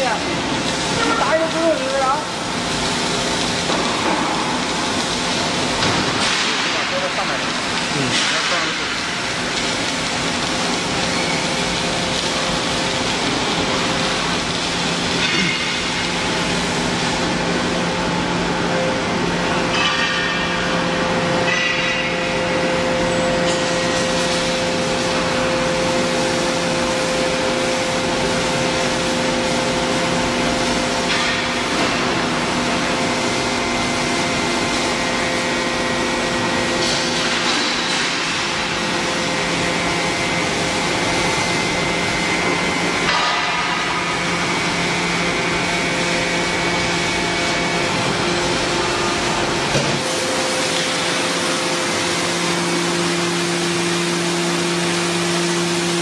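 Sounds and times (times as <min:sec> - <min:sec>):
hydraulic power unit hum and whine: 0:00.0 - 0:56.0.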